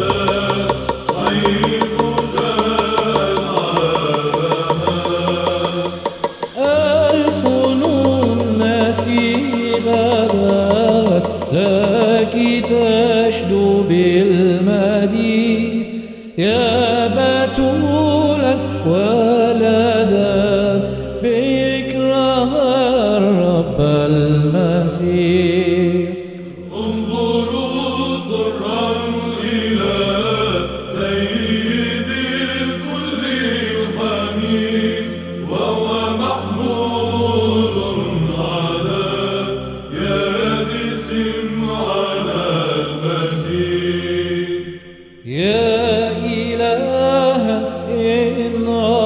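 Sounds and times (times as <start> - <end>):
person chanting a hymn: 0.0 - 49.0.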